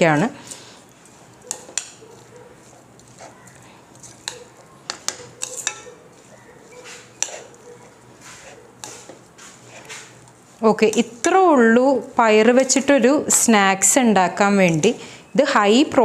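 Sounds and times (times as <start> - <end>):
spoon scraping metal pot: 0.0 - 13.4.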